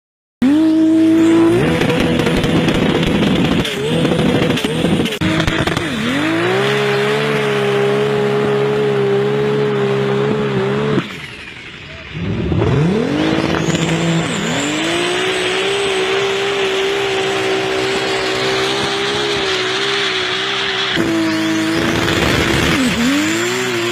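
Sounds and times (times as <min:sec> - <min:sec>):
engine revving high: 0:00.4 - 0:23.9.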